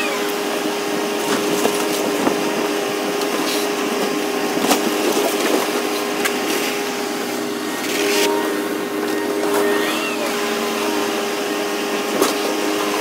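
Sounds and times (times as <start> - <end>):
excavator hydraulic whine: 0.0 - 13.0.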